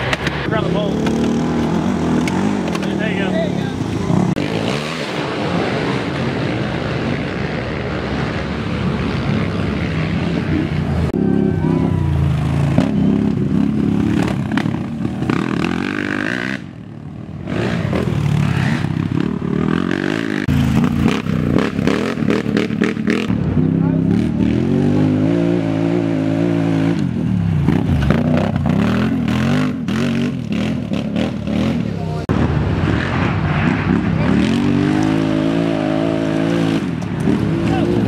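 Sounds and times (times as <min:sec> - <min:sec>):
quad engines revving: 0:00.0 - 0:38.0.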